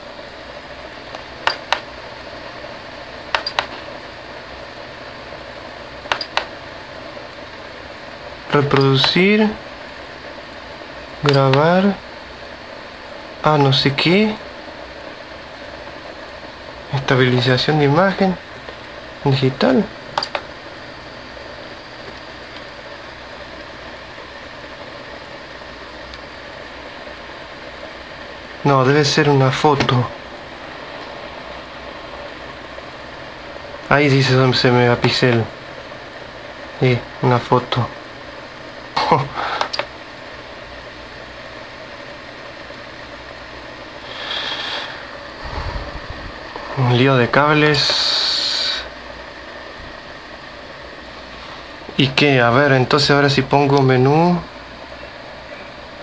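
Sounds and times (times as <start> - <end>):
steady low hiss: 0.0 - 56.0.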